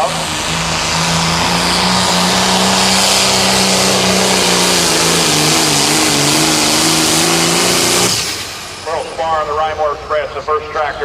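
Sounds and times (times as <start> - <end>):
diesel tractor engine at full throttle: 0.0 - 11.0.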